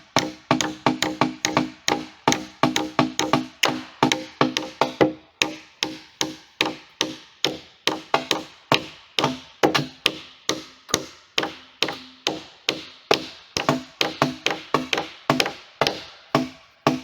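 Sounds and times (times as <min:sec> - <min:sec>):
hammer blows on wood: 0:00.0 - 0:17.0.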